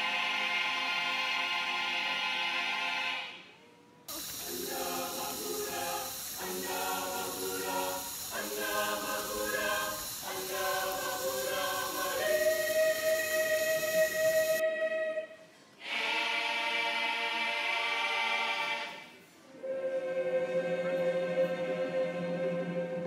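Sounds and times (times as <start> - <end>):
choir singing sustained chords: 0.0 - 23.0.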